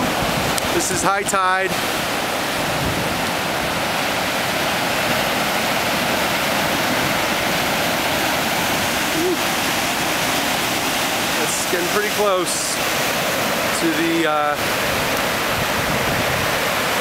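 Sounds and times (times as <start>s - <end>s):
waves breaking: 0.0s - 17.0s.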